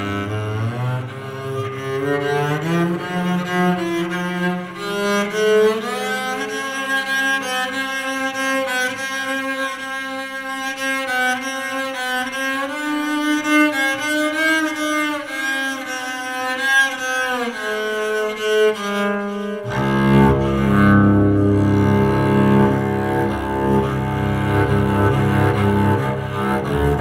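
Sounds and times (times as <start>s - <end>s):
electric cello melody: 0.0s - 27.0s.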